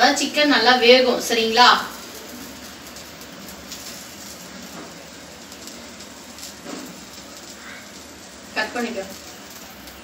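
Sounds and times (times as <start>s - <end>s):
fat sizzling in fire: 0.0s - 10.0s
gas flame hissing: 0.0s - 10.0s.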